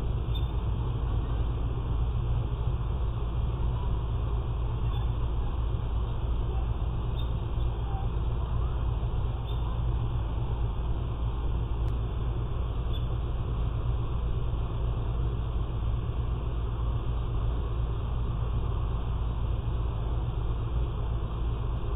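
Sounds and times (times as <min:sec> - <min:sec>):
low rumble: 0:00.0 - 0:21.9.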